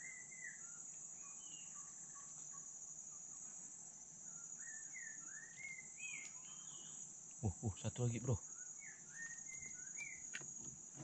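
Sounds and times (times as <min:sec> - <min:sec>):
insect chorus droning: 0:00.0 - 0:11.0.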